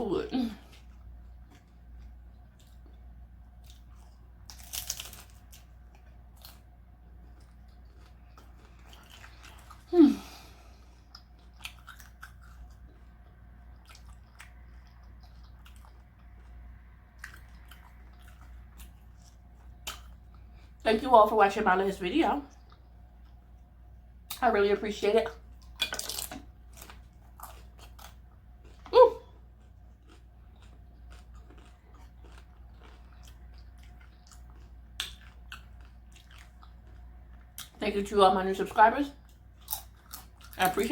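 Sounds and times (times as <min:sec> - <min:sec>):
person chewing food: 0:00.6 - 0:20.8, 0:25.4 - 0:37.8, 0:39.2 - 0:40.7.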